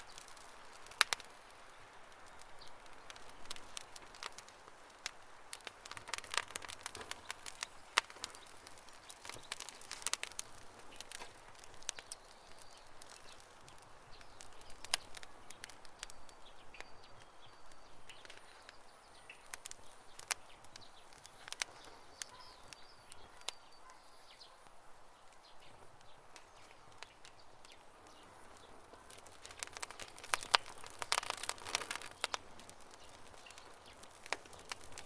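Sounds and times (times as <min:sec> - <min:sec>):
campfire pops and snaps: 0:00.0 - 0:35.0
fire hissing: 0:00.0 - 0:35.0.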